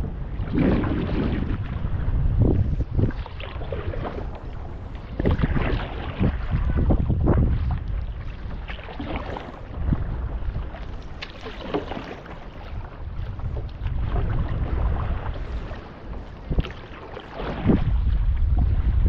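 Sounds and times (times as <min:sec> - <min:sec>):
wind on microphone: 0:00.0 - 0:19.0
paddle splashing in water: 0:00.3 - 0:19.0.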